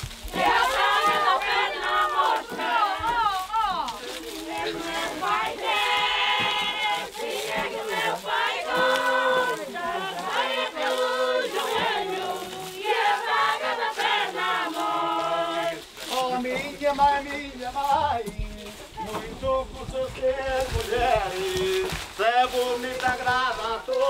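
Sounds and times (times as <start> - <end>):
group of voices singing: 0.2 - 24.0.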